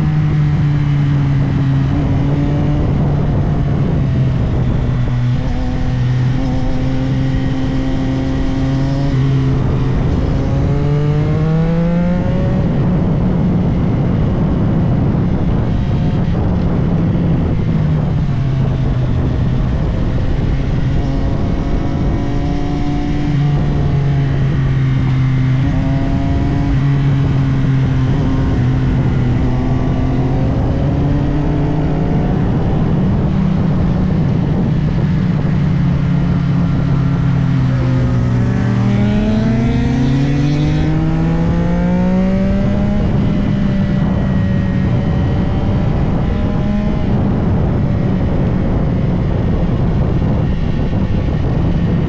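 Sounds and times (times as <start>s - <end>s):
motorcycle engine running: 0.0s - 52.0s
wind rushing: 0.0s - 52.0s.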